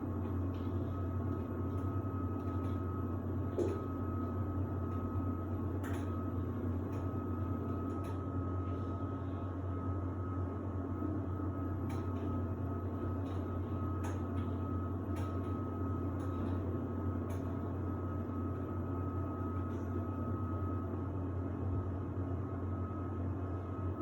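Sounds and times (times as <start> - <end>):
washer-dryer drum humming: 0.0 - 24.0.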